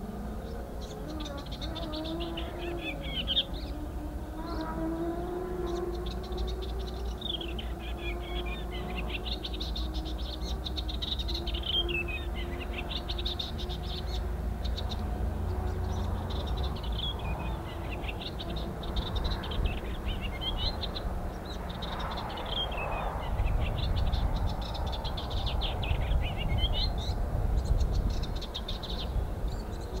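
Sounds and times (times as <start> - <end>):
warbler singing: 0.0 - 30.0.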